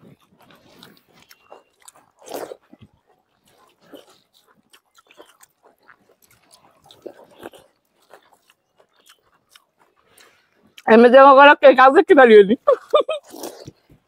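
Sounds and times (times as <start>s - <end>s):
crunching and chewing crisp shells: 0.0s - 10.9s, 13.1s - 14.0s.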